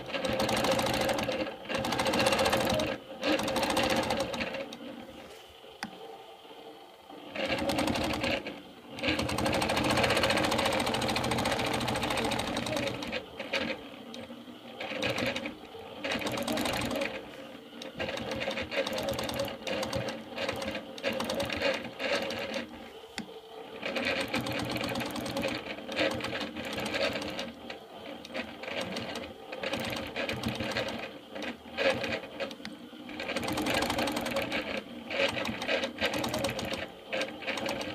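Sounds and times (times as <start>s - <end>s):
quilting machine needle stitching: 0.0s - 4.9s, 7.2s - 22.8s, 23.6s - 37.9s.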